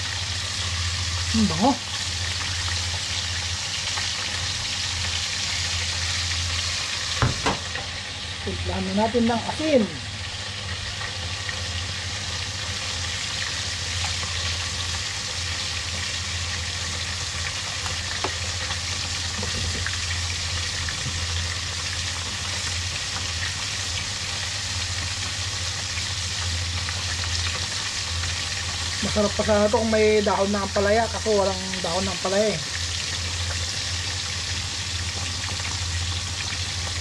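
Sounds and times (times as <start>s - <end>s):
fish sizzling in oil: 0.0s - 37.0s
pot of soup boiling: 0.0s - 37.0s.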